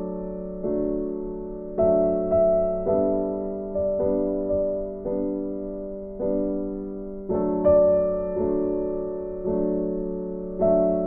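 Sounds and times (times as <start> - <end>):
gentle piano chords: 0.0 - 11.0.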